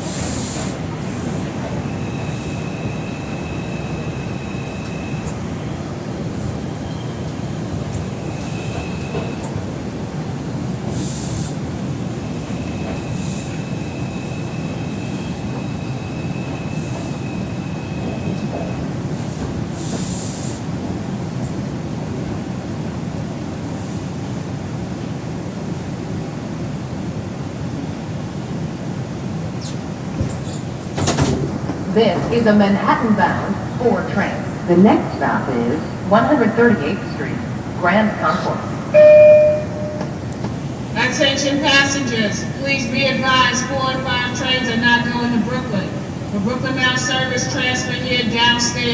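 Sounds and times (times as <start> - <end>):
subway car rumbling on track: 0.0 - 48.9.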